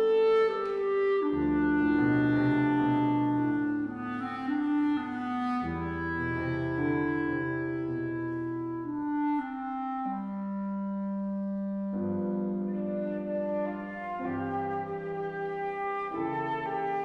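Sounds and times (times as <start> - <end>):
clarinet playing long notes: 0.0 - 17.0
piano chords: 0.0 - 17.0.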